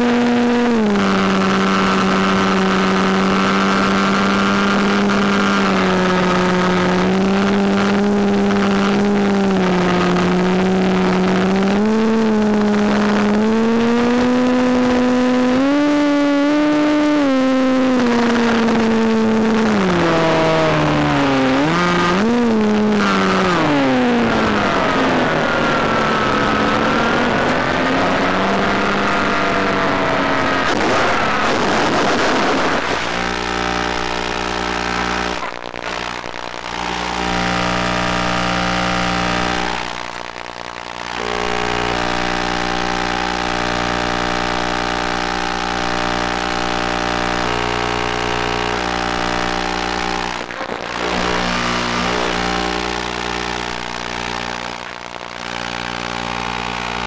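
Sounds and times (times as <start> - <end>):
model airplane electric motor: 0.0 - 31.8, 32.7 - 57.0.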